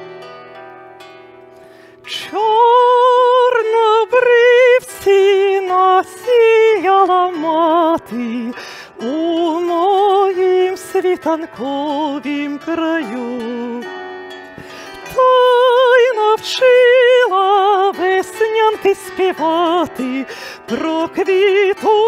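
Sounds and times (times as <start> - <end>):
plucked string instrument: 0.0 - 22.0
woman singing slow song: 2.0 - 22.0.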